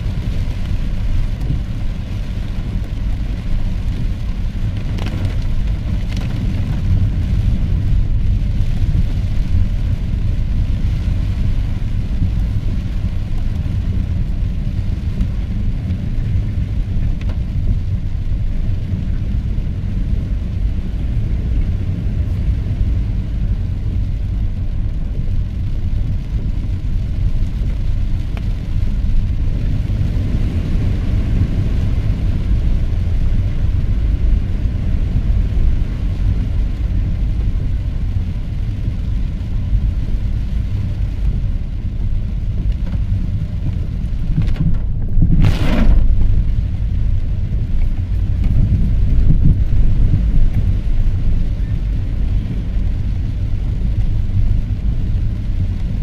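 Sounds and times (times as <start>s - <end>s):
car road rumble: 0.0s - 56.0s
rain hiss: 0.0s - 56.0s.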